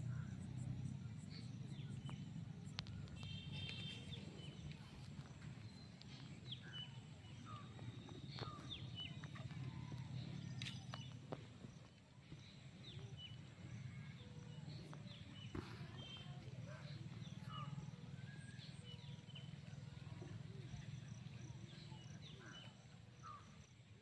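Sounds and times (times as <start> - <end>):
birds chirping: 0.0 - 23.8.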